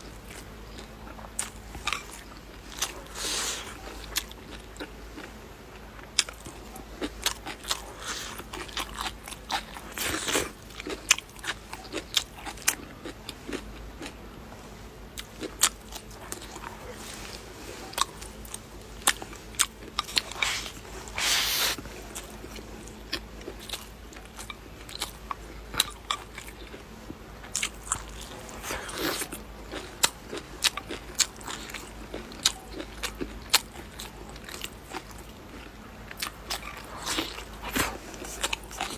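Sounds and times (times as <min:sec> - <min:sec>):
person crunching and chewing: 0:00.0 - 0:14.2, 0:15.2 - 0:26.8, 0:27.4 - 0:38.9.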